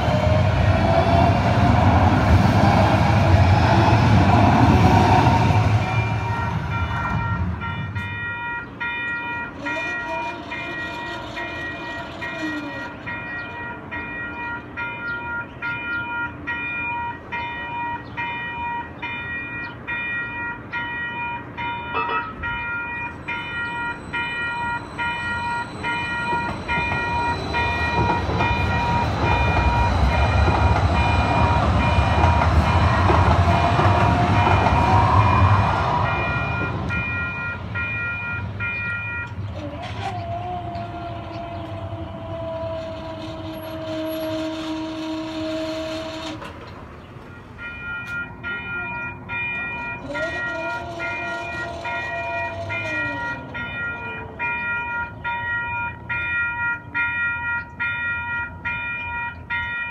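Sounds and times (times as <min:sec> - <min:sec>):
crossing warning bell ringing: 0:00.0 - 0:45.1, 0:46.9 - 0:59.9
train rumbling past: 0:00.0 - 0:59.9.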